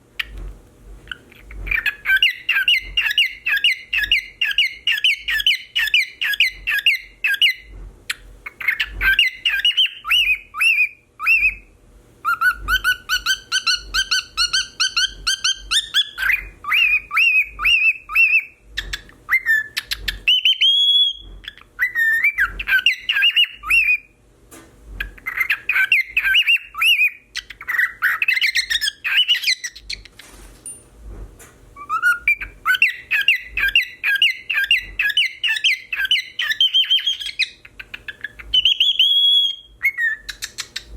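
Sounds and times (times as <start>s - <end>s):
cockatiel whistling: 1.1s - 7.7s, 8.5s - 11.6s, 12.2s - 18.6s, 19.3s - 24.1s, 25.0s - 30.0s, 31.8s - 40.8s.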